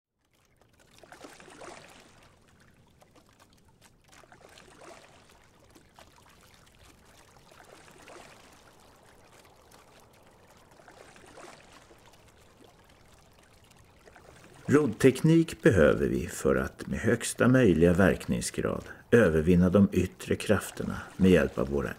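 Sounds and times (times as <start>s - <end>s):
oar splashing in water: 0.2s - 21.9s.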